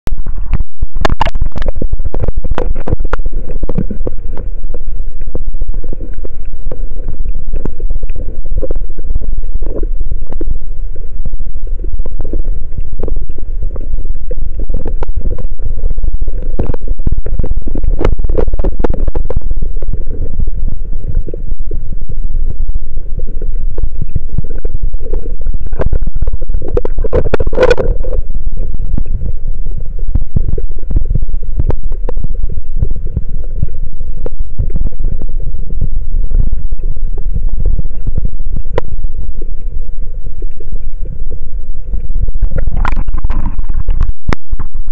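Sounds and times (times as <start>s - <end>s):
sharp crackle: 0.0s - 44.9s
underwater rumble of moving water: 0.0s - 44.9s.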